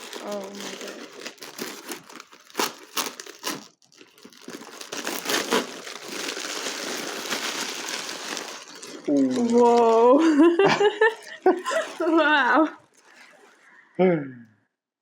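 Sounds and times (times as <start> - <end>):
paper crackling: 0.0 - 13.5
paper rustling: 0.0 - 13.6.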